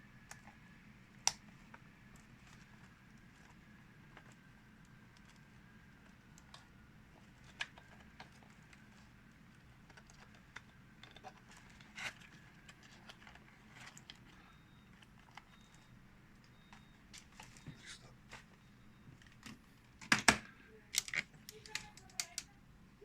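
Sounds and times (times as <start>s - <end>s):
faint room hum: 0.0s - 23.0s
small parts clicking and tapping: 1.2s - 17.8s, 19.1s - 22.5s.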